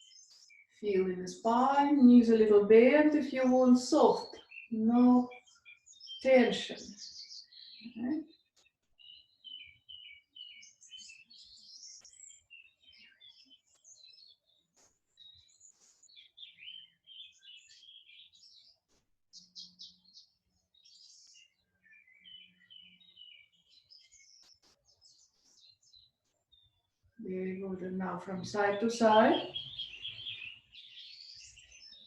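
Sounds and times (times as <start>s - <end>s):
small birds chirping and twittering: 0.0s - 32.0s.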